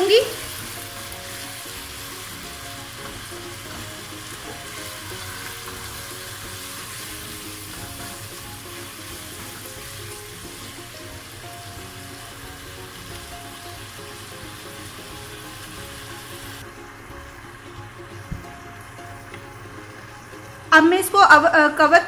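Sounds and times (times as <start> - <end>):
meat sizzling in a pot: 0.0 - 21.2
soft background music: 0.0 - 22.0.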